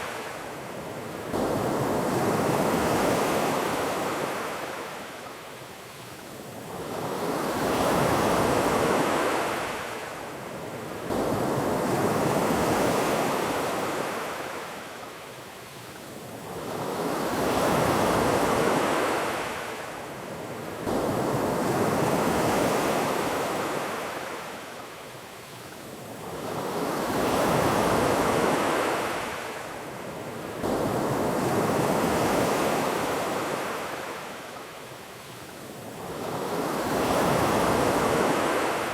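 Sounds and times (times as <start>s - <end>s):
ocean waves washing onto beach: 0.0s - 38.9s.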